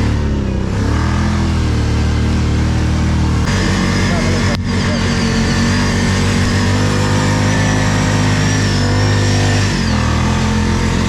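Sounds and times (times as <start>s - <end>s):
atv engine running: 0.0s - 11.0s
thin high whine: 1.6s - 11.0s.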